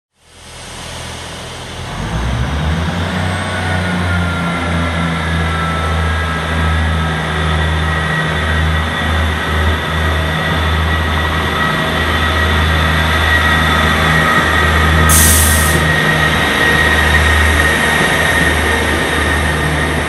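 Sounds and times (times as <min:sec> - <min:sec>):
diesel engine droning: 0:00.1 - 0:20.0.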